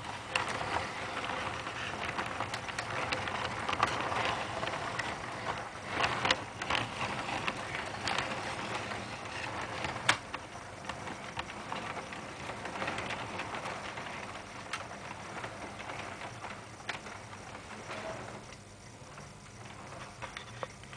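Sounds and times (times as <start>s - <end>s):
clicks over rail joints: 0.0s - 20.9s
toy train wheels clattering: 0.0s - 20.9s.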